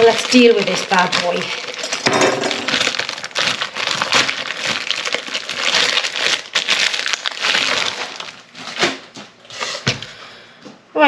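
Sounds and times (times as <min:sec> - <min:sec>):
plastic bag crinkling and tearing: 0:00.0 - 0:09.9.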